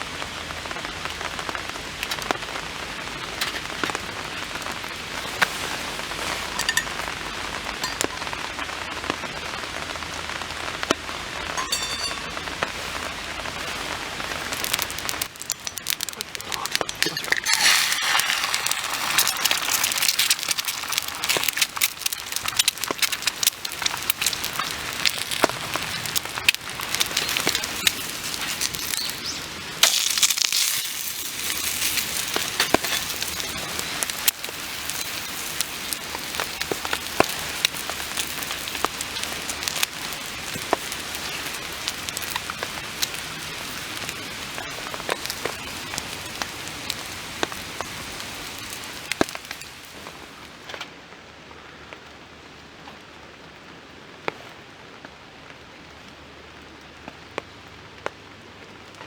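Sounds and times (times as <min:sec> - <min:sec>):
rain pattering on a tarp: 0:00.0 - 0:59.0.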